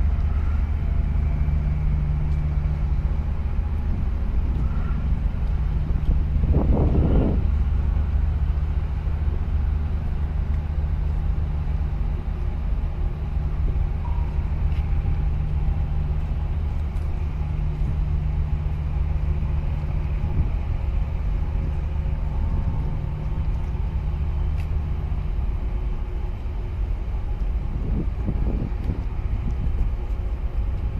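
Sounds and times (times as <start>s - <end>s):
ship engines droning: 0.0s - 30.9s.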